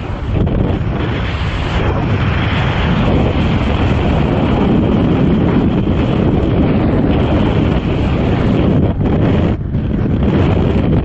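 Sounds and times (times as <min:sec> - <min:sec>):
wind blasting over microphone: 0:00.0 - 0:11.0.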